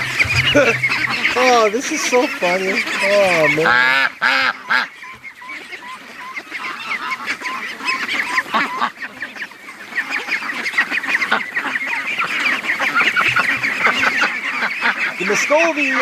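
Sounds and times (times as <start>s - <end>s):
ducks and geese honking and quacking: 0.0s - 16.0s.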